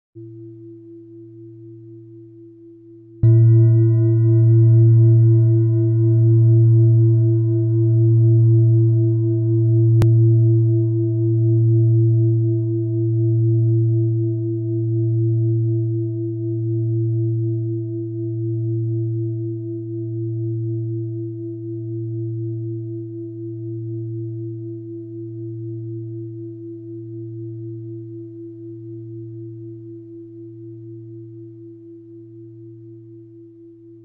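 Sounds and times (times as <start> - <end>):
singing bowl ringing: 0.2 - 33.0.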